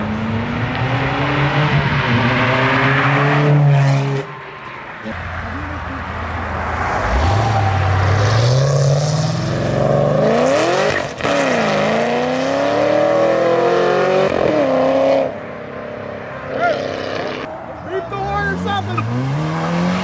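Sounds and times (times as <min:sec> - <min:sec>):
car engine accelerating hard: 0:00.0 - 0:04.3, 0:05.0 - 0:20.0.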